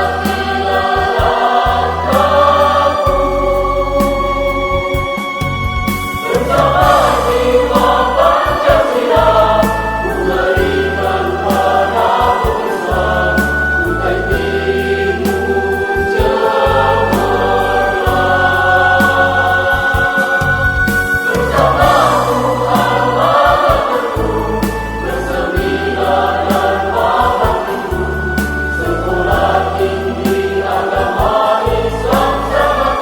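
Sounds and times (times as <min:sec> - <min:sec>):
choir singing a hymn: 0:00.0 - 0:33.0
instrumental backing with low bass: 0:00.0 - 0:33.0.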